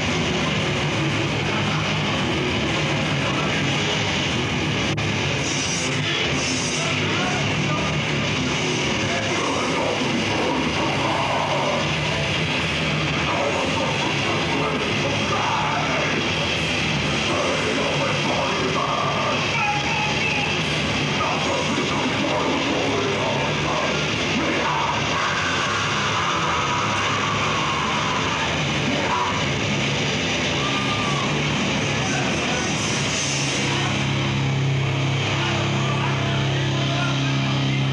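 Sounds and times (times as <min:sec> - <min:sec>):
metal band playing live: 0:00.0 - 0:37.9.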